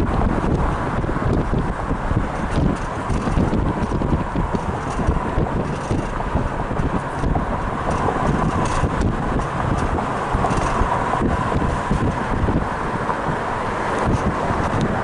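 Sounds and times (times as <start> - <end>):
car noise: 0.0 - 15.0
wind buffeting microphone: 0.0 - 15.0.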